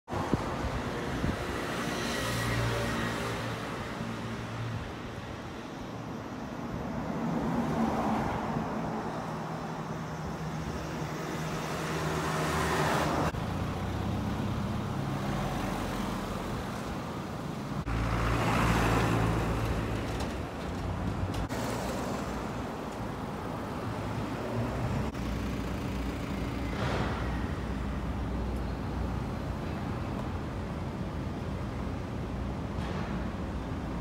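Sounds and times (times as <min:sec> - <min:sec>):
cars passing by: 0:00.1 - 0:34.0.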